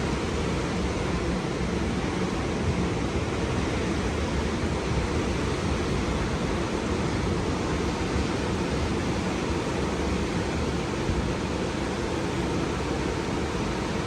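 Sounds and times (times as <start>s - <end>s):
ocean surf washing onto beach: 0.0s - 14.0s.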